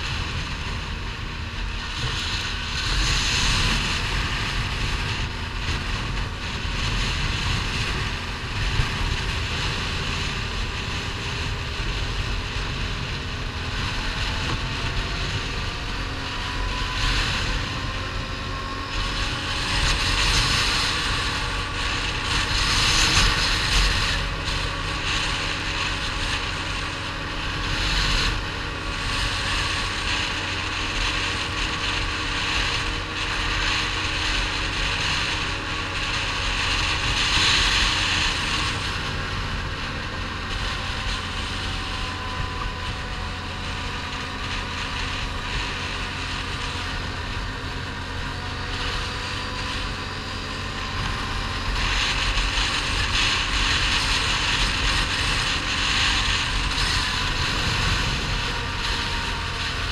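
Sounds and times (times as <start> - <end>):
atv engine running: 0.0 - 59.9
wind rushing over microphone: 0.0 - 59.9.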